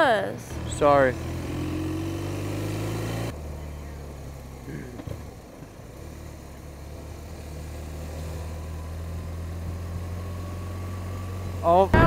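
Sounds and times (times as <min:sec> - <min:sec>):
motorcycle engine running: 0:00.4 - 0:12.0.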